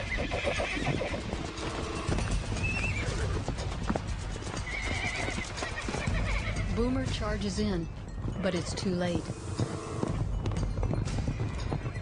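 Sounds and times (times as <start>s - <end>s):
hooves thudding and scuffling: 0.0s - 12.0s
horses squealing: 0.0s - 12.0s.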